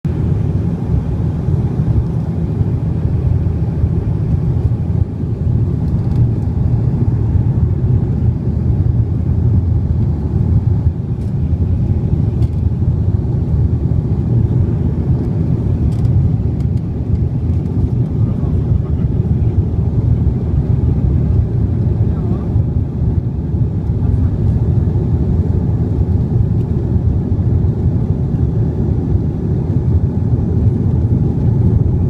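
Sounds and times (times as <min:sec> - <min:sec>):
jet engines and airflow rumble: 0:00.0 - 0:32.0.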